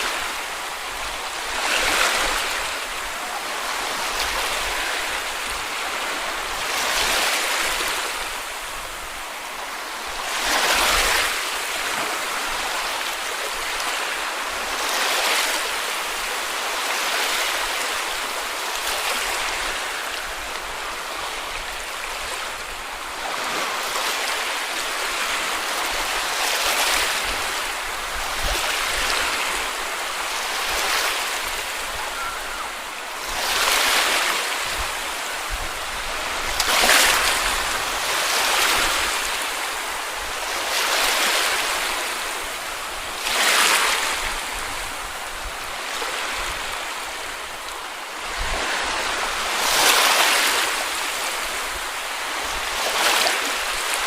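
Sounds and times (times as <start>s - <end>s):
sea waves breaking on beach: 0.0s - 54.0s.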